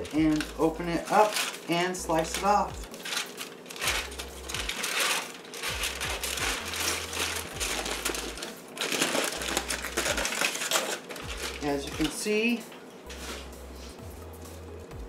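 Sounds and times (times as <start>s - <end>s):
aluminum foil crinkling: 0.0s - 13.5s.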